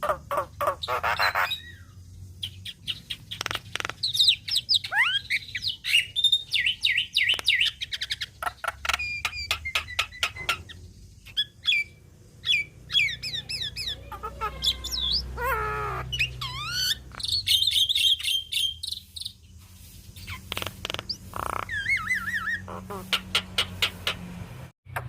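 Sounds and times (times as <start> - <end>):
bird singing varied song: 0.0 - 24.3.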